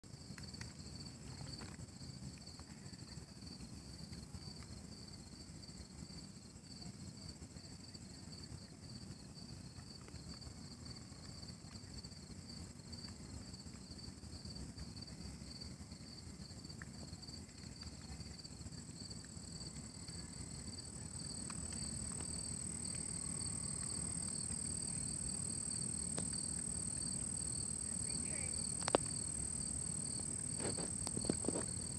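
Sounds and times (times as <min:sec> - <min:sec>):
dense crackling and popping: 0:00.0 - 0:04.9, 0:09.7 - 0:31.9.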